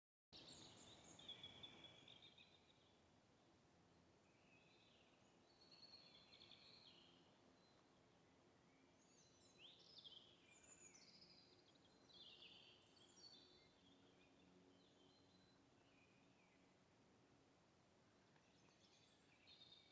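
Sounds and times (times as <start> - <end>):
songbird chirping: 0.4 - 19.9.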